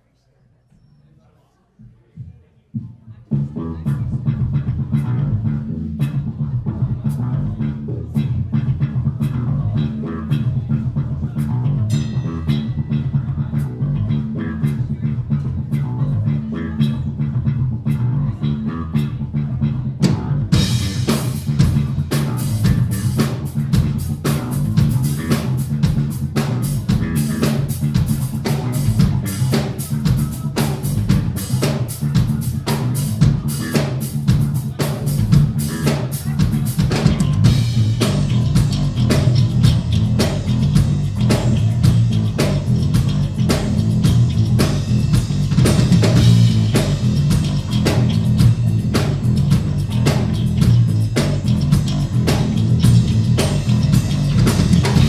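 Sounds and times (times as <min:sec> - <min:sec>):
drum kit playing: 0:03.3 - 0:55.0
electric bass line: 0:03.3 - 0:55.0.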